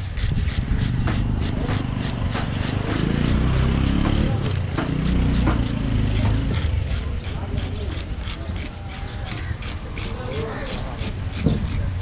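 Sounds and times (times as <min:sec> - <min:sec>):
knife scraping fish scales: 0:00.0 - 0:03.8, 0:04.4 - 0:12.0
motorcycle engine passing: 0:00.7 - 0:11.9.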